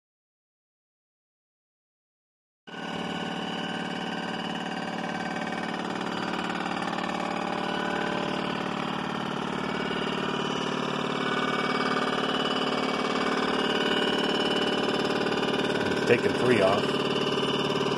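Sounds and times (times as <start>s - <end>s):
resurfacing machine hum: 2.7s - 17.9s.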